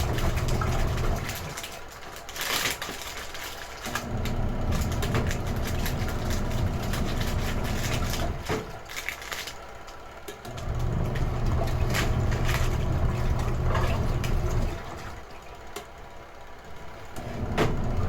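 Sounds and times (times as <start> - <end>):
water sloshing: 0.0 - 9.5, 10.6 - 15.9
washing machine motor hum: 0.0 - 18.0.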